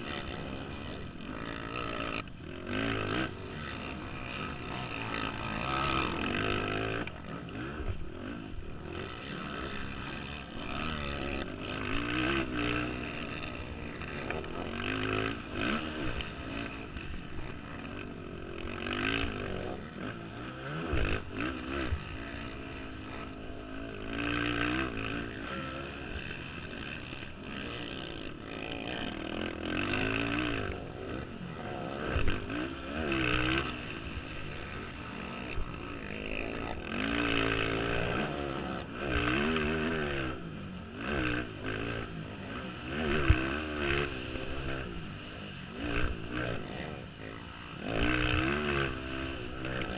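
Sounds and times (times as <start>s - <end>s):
quad engines revving: 0.0s - 49.9s.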